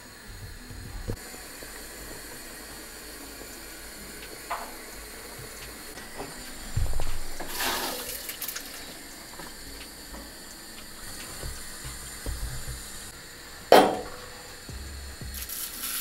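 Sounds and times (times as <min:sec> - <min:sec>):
water running and splashing: 0:00.3 - 0:16.0.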